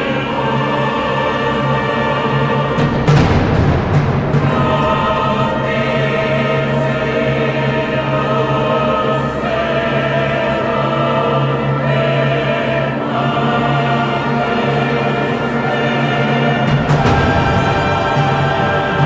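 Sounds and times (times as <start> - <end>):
mixed choir singing chords: 0.0 - 19.0.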